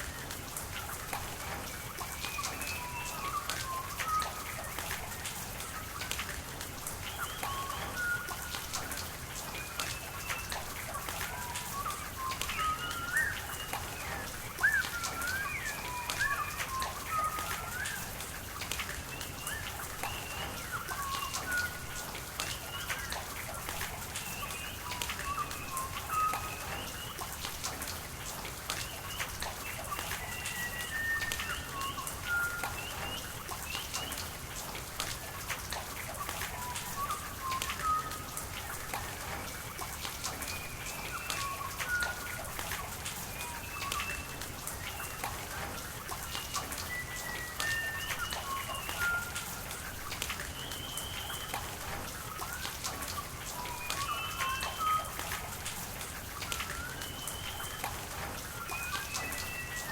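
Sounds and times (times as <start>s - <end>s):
rain and running water: 0.0s - 59.9s
birds chirping and whistling: 1.4s - 5.0s, 7.0s - 27.4s, 28.8s - 34.3s, 36.2s - 49.7s, 50.4s - 55.6s, 56.2s - 59.9s.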